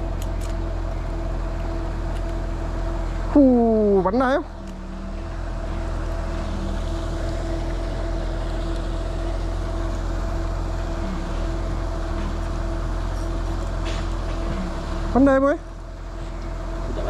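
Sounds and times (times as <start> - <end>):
constant low rumble: 0.0 - 17.0
steady motor hum: 0.0 - 17.0.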